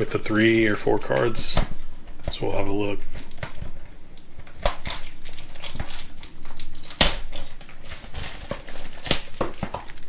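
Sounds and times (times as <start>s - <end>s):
packaging crinkling and tearing: 0.0s - 1.5s, 2.3s - 10.0s.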